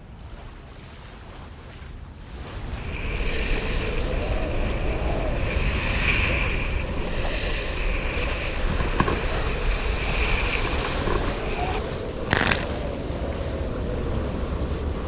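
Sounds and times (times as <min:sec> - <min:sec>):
water rushing: 0:00.0 - 0:15.0
wind buffeting microphone: 0:00.0 - 0:15.0
steady high whine: 0:02.8 - 0:15.0.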